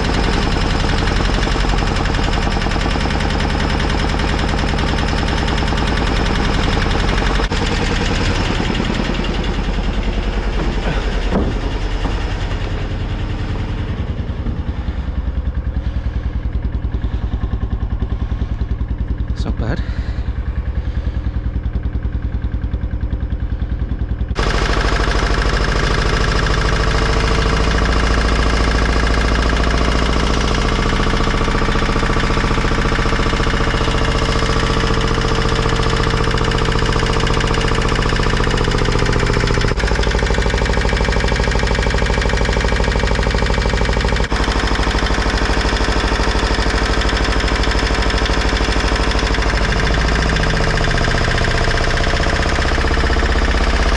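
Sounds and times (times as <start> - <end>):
diesel engine running with rattle: 0.0 - 53.9.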